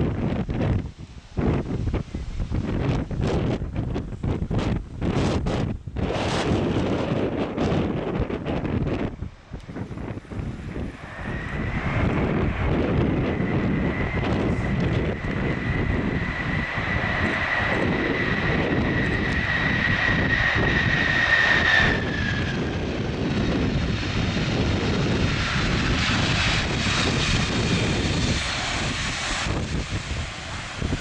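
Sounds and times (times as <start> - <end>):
jet engine whine: 0.0 - 31.0
low rumble: 0.0 - 31.0
rushing jet noise: 0.0 - 31.0.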